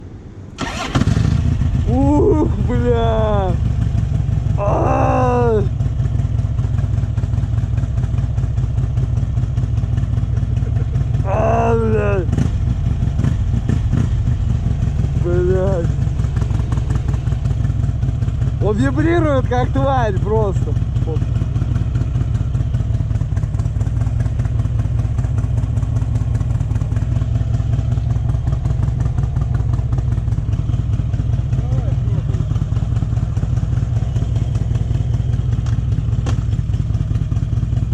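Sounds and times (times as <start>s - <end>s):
motorcycle engine rumbling: 0.0s - 37.9s.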